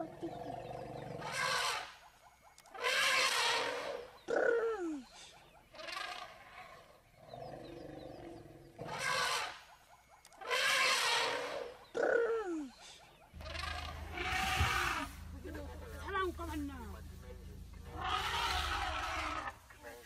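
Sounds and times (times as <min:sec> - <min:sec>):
lions and elephant calling: 0:00.0 - 0:16.1, 0:17.7 - 0:20.0.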